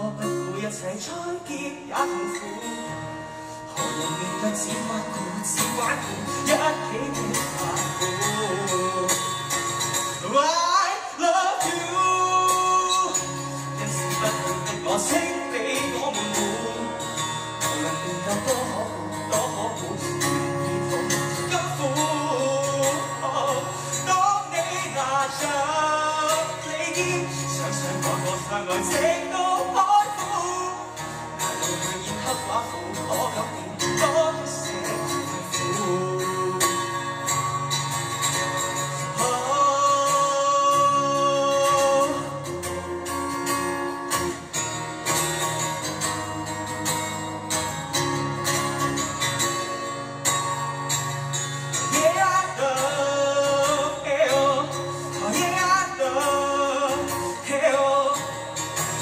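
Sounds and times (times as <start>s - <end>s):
man singing a ballad: 0.0s - 43.8s, 51.1s - 59.0s
strummed acoustic guitar: 0.0s - 59.0s.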